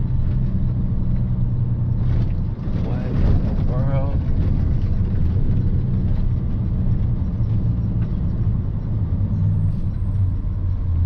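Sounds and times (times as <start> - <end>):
road rumble: 0.0 - 11.0
truck engine drone: 0.0 - 11.0.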